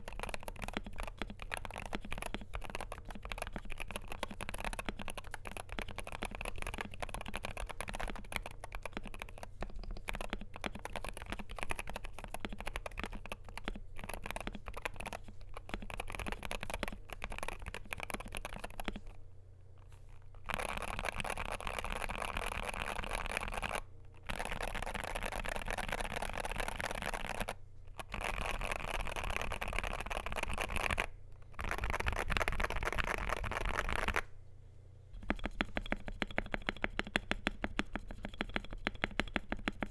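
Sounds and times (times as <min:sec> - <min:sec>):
keyboard typing: 0:00.0 - 0:19.2, 0:20.4 - 0:34.3, 0:35.2 - 0:39.9.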